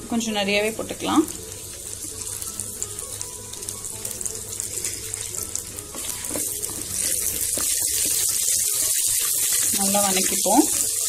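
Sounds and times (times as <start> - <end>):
leaves sizzling in hot oil: 0.2 - 11.0.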